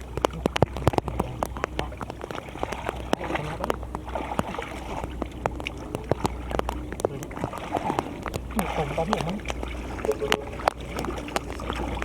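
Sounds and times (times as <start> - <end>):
low hum: 0.0 - 12.0
sharp clicks and splats: 0.0 - 12.0
water sloshing and splashing: 0.0 - 12.0.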